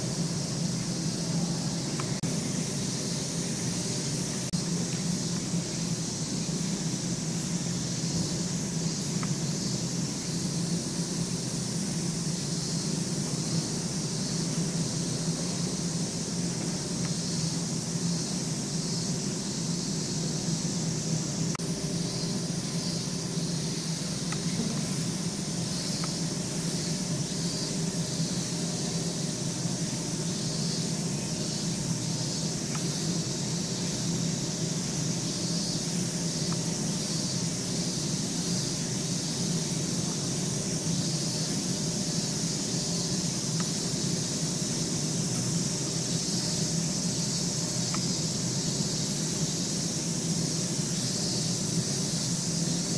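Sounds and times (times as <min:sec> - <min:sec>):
ventilation machinery hum and hiss: 0:00.0 - 0:52.9.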